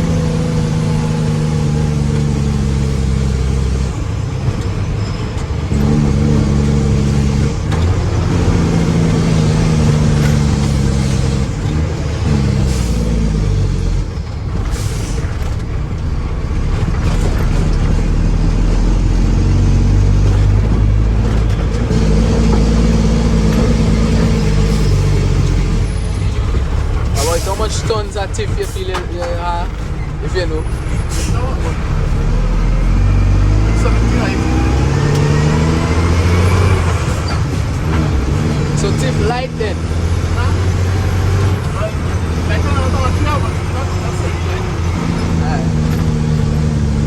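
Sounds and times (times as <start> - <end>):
diesel truck engine revving: 0.0 - 47.0.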